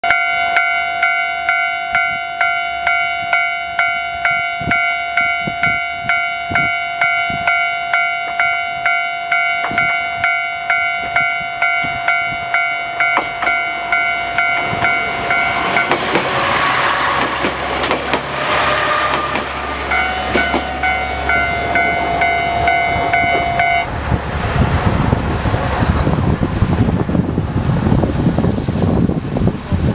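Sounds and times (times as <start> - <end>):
level-crossing warning bell ringing: 0.0 - 24.7
diesel railcar passing: 0.0 - 29.9.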